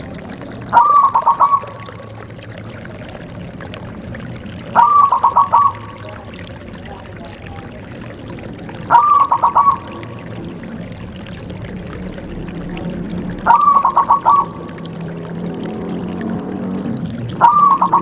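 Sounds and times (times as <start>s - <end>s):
dove cooing: 0.6s - 3.8s, 4.4s - 15.0s, 17.4s - 18.0s.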